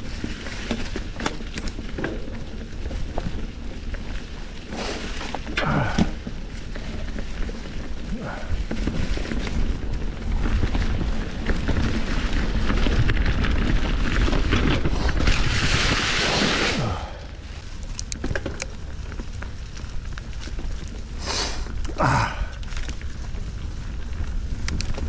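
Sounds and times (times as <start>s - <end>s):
bike clicks and rattles: 0.0s - 25.0s
wind and tyres rumbling: 0.0s - 25.0s.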